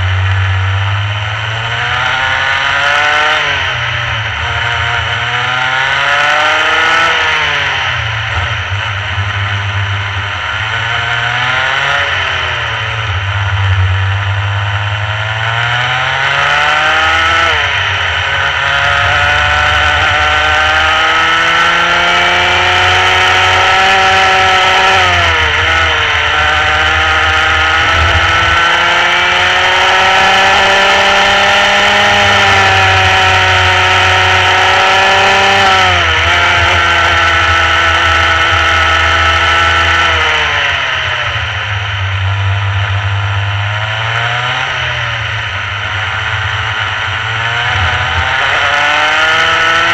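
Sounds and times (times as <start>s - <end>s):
kart two-stroke engine revving: 0.0s - 49.9s.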